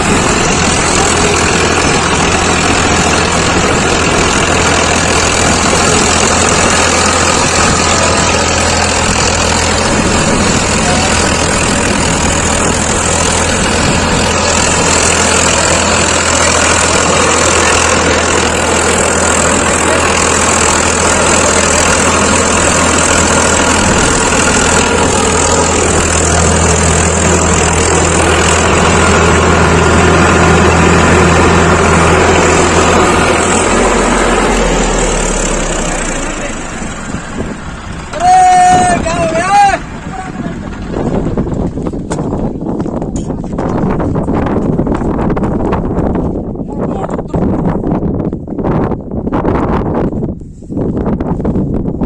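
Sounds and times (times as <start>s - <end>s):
tractor diesel engines running: 0.0s - 52.0s.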